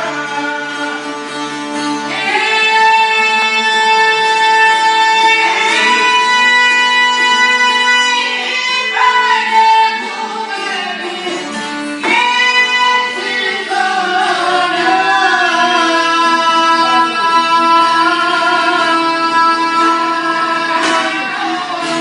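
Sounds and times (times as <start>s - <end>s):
plucked string instruments folk music: 0.0s - 22.0s.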